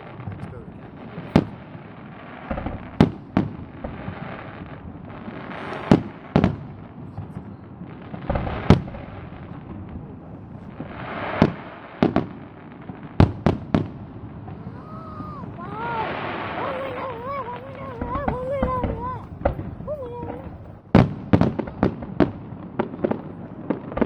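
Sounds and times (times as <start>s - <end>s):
firework bangs: 0.0s - 24.0s
firework crackling: 0.0s - 24.0s.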